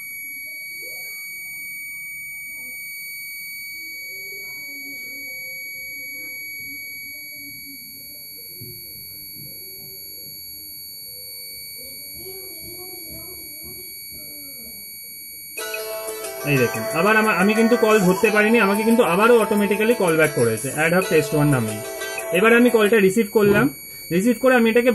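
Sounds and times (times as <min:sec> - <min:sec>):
security alarm high-pitched tone: 0:00.0 - 0:24.9.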